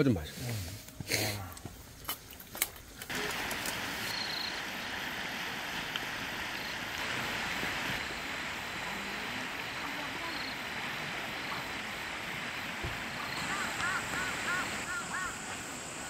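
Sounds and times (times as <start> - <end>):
river flowing over stones: 3.1 - 16.0.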